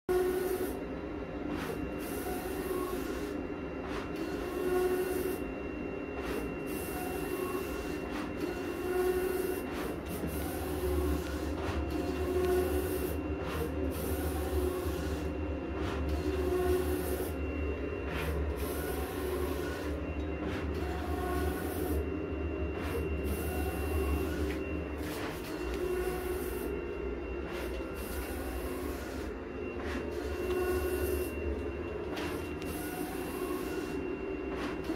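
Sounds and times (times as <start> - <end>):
printer carriage running back and forth: 0.1 - 34.9.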